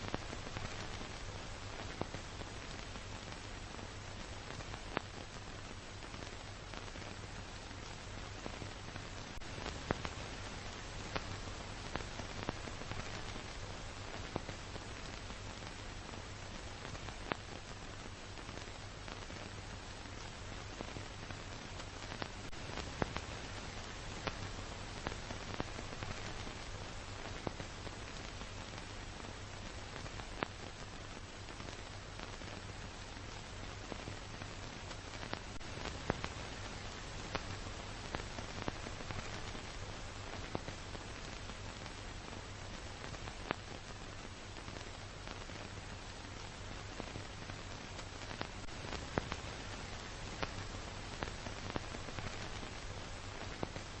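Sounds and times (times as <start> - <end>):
small ticks: 4.2 - 54.0.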